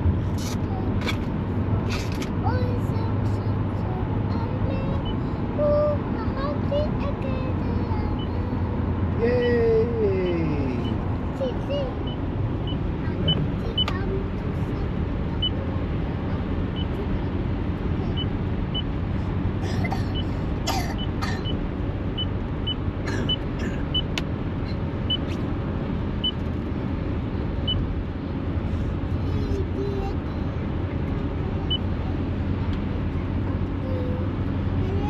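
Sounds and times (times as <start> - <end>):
car road and engine noise: 0.0 - 35.0.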